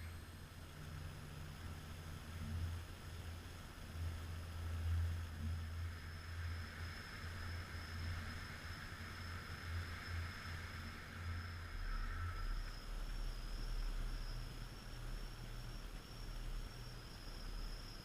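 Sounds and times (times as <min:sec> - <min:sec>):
rain: 0:00.0 - 0:18.0
wind: 0:00.0 - 0:18.0.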